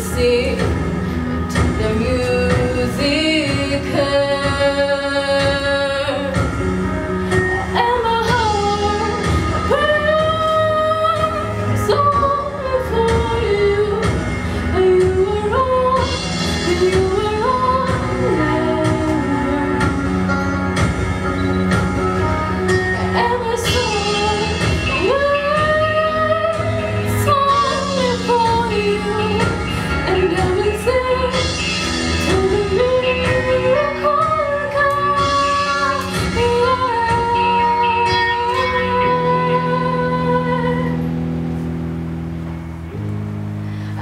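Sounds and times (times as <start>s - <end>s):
woman singing slow melody: 0.0s - 20.8s, 22.6s - 41.2s
instrumental backing: 0.0s - 44.0s.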